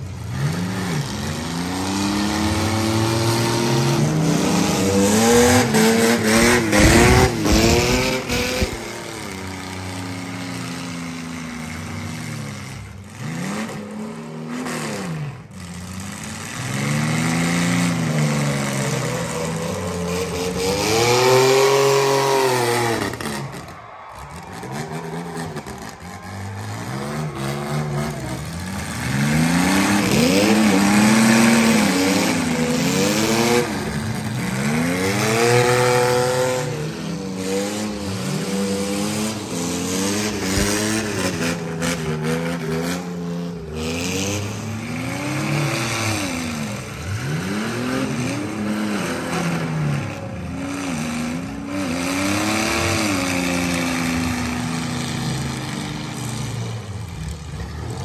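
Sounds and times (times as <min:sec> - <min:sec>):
truck engines revving hard: 0:00.0 - 0:58.0.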